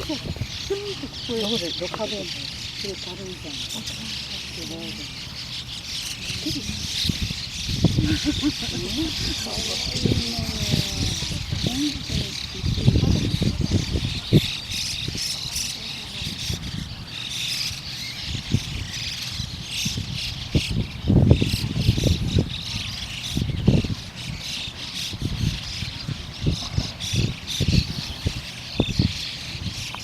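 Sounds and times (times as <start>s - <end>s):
birds splashing in water: 0.0s - 30.0s
starlings chattering: 0.0s - 30.0s.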